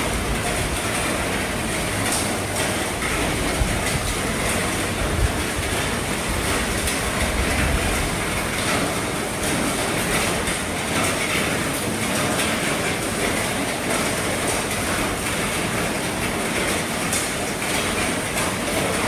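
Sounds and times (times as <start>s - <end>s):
heavy rain on a roof: 0.0s - 19.0s.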